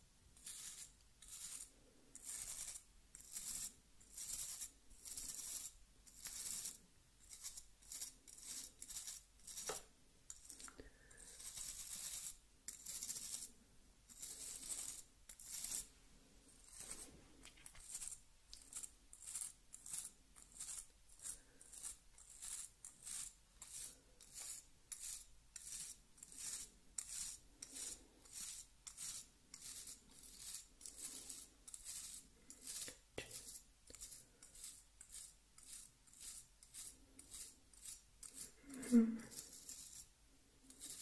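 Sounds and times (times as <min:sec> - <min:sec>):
razor scraping through shaving foam: 0:00.4 - 0:13.5, 0:14.1 - 0:15.9, 0:16.6 - 0:17.1, 0:17.7 - 0:40.1, 0:40.7 - 0:41.0.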